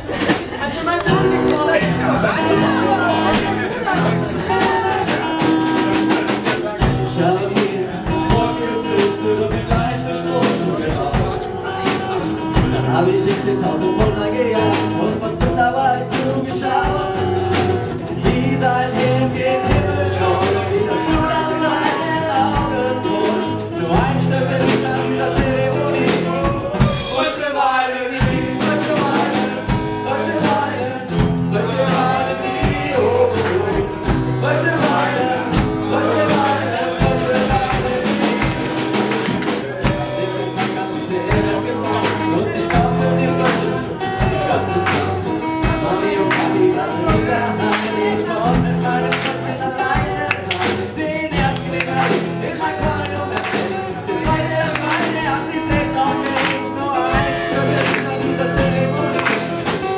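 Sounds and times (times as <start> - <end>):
drum kit beat: 0.0 - 59.9
strummed acoustic guitar: 0.0 - 59.9
man singing: 1.1 - 59.9.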